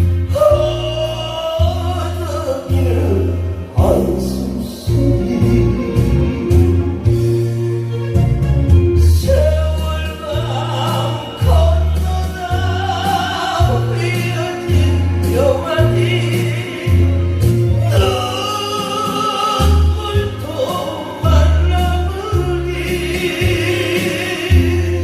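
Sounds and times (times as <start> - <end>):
person singing slow song: 0.0 - 7.7, 9.0 - 25.0
amplified backing music: 0.0 - 25.0.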